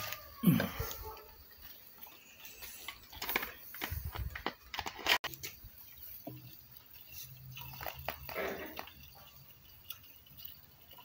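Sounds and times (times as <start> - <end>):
plastic bottles clicking and knocking: 0.0 - 11.0.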